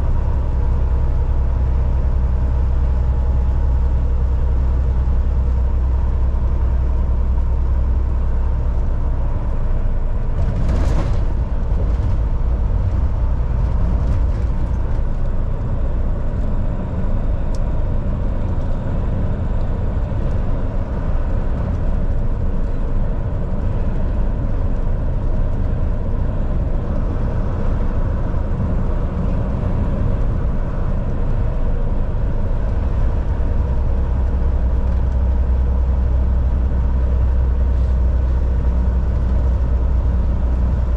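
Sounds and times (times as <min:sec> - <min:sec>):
diesel truck engine droning: 0:00.0 - 0:40.9
road noise: 0:00.0 - 0:40.9.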